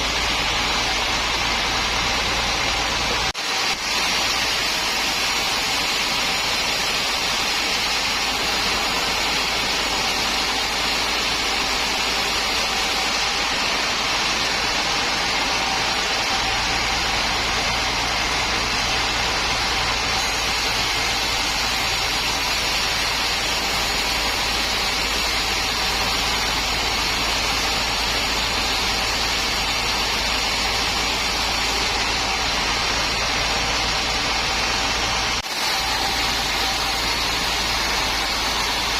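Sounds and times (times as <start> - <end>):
low machinery hum: 0.0 - 38.9
sawmill machinery hissing: 0.0 - 38.9.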